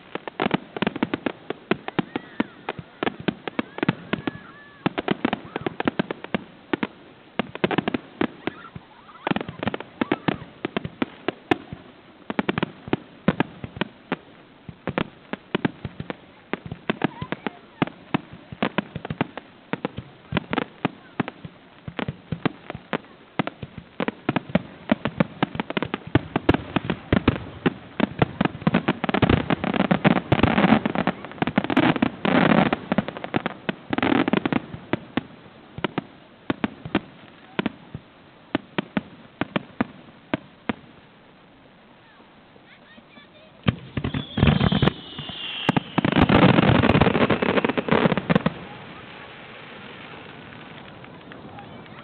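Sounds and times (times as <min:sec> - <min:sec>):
fireworks banging and crackling: 0:00.0 - 0:52.0.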